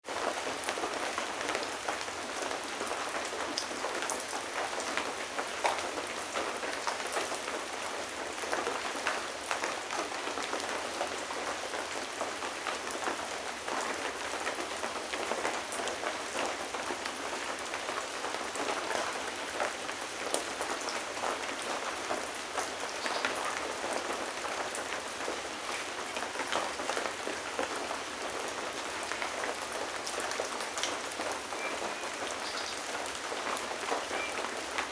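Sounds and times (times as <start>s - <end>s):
rain pattering on a surface: 0.0s - 34.9s.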